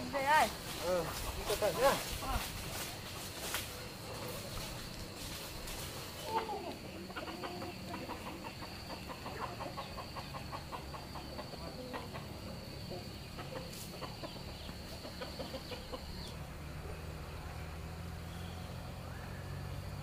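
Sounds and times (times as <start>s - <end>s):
chickens clucking: 0.0s - 17.5s.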